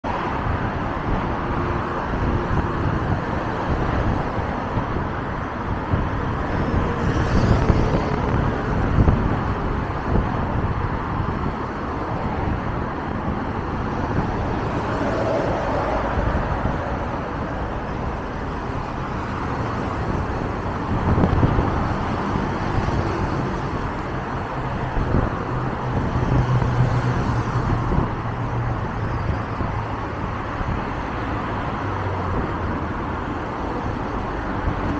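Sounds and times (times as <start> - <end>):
cars passing: 0.0 - 34.9.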